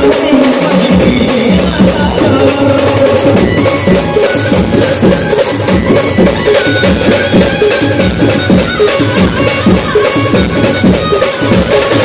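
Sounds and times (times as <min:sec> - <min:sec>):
drum and percussion beat: 0:00.0 - 0:12.0
street band music over loudspeaker: 0:00.0 - 0:12.0.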